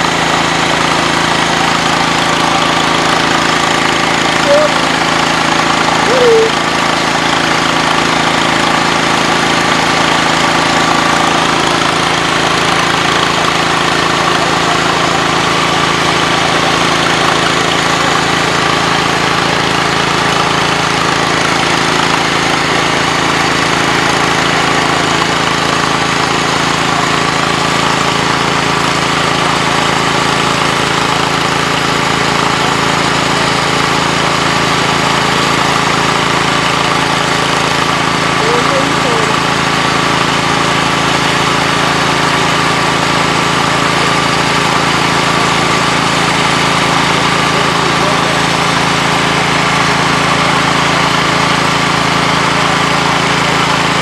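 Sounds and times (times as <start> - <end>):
steady engine drone: 0.0 - 54.0.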